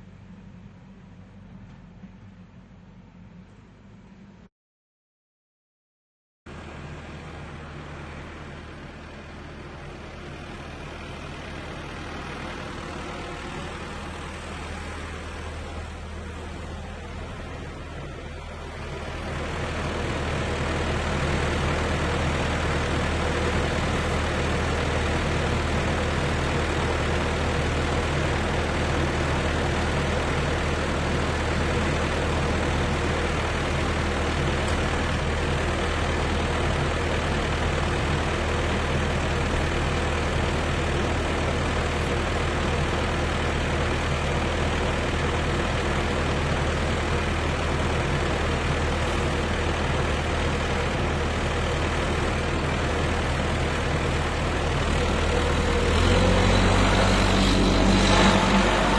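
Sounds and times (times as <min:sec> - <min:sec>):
tractor engine running: 0:00.0 - 0:04.4, 0:06.5 - 0:58.9.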